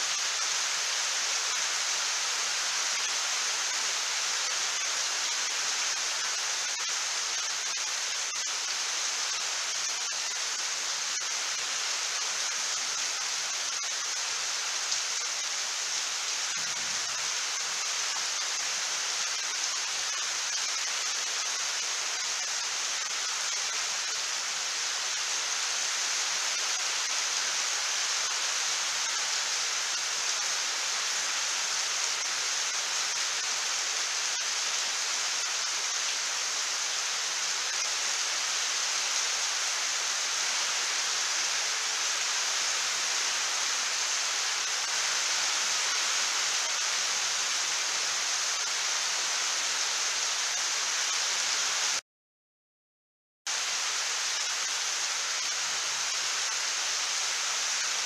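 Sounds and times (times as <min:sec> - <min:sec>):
rain falling: 0:00.0 - 0:52.0, 0:53.5 - 0:58.0.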